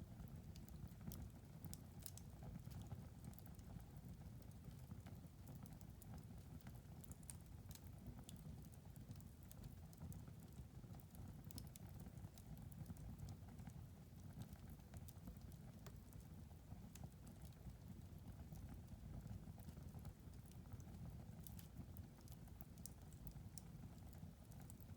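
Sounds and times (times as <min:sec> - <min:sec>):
wood fire crackling: 0:00.2 - 0:24.9.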